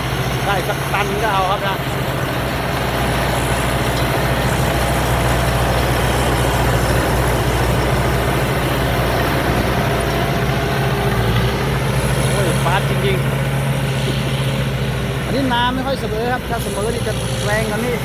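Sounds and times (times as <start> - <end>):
cutting and threshing machinery: 0.0 - 18.0
diesel engine under load: 0.0 - 18.0.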